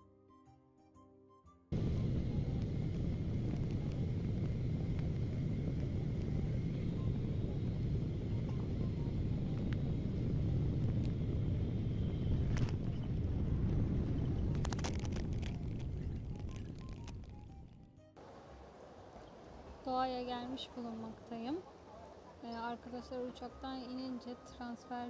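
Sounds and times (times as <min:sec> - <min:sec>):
airliner cabin engine rumble: 0:01.8 - 0:17.6, 0:18.2 - 0:25.0.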